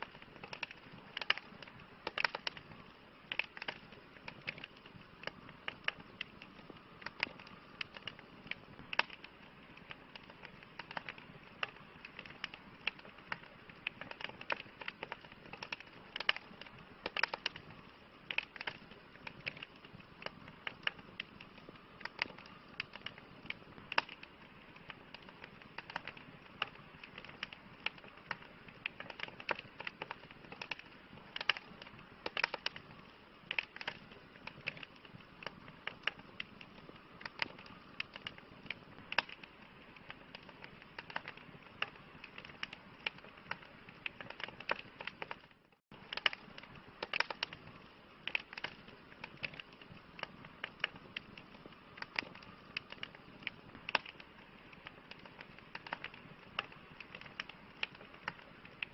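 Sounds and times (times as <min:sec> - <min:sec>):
campfire popping and crackling: 0:00.0 - 0:58.9.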